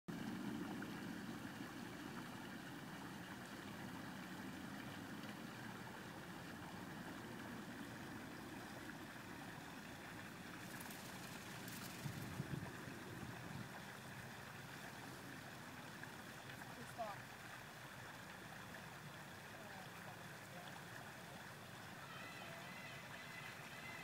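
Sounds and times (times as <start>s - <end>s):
faint outdoor background noise: 0.1s - 24.0s.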